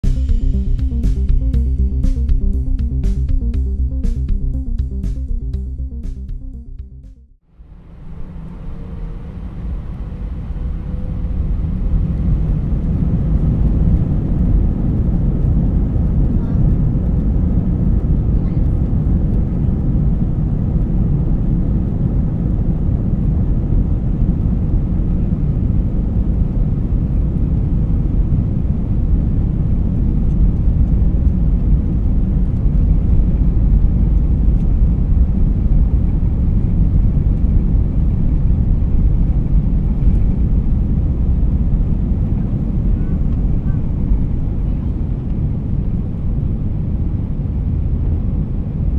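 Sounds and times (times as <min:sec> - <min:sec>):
airframe rumble: 0:00.0 - 0:46.8
jet engines at take-off power: 0:07.6 - 0:48.9.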